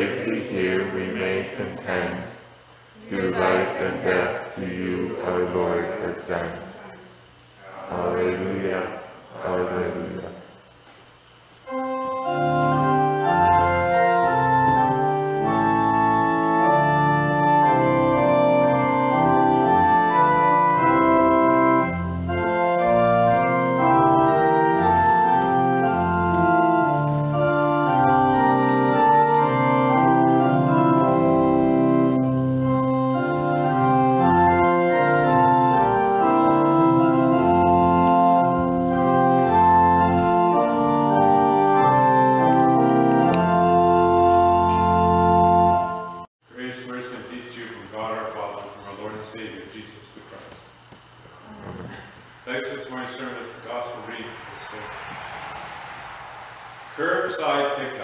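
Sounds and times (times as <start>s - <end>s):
church organ playing sustained chords: 0.0s - 6.8s, 7.7s - 10.7s, 11.6s - 50.3s, 52.5s - 58.0s.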